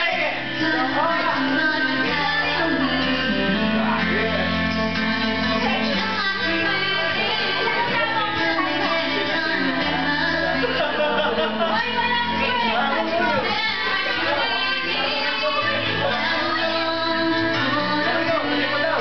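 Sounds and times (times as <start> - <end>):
low bass notes: 0.0 - 19.0
song with singing voice: 0.0 - 19.0.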